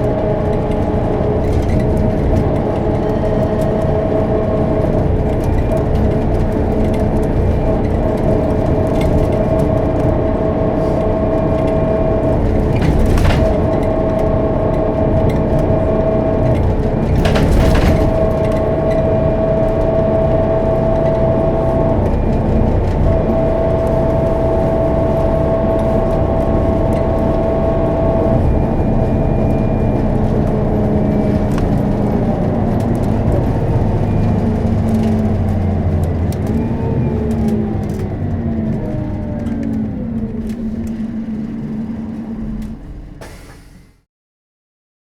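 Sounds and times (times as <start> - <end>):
bus engine running: 0.0 - 44.0.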